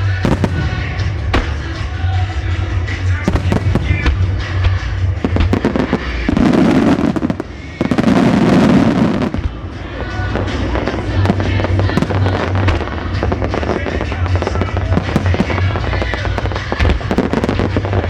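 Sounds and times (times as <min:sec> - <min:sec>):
fireworks bursting and crackling: 0:00.0 - 0:18.0
music from loudspeakers: 0:00.0 - 0:18.0
sharp firework bangs: 0:00.1 - 0:18.0.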